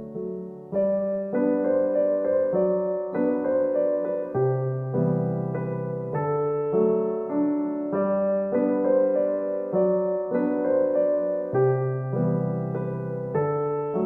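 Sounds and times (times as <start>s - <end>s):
slow solo piano melody: 0.0s - 14.0s.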